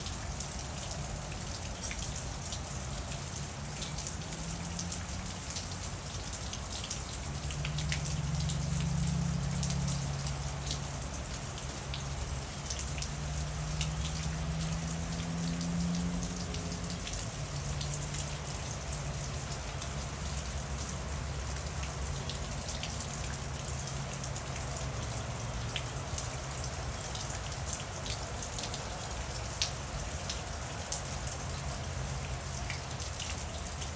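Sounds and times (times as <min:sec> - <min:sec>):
raindrops ticking on a surface: 0:00.0 - 0:33.9.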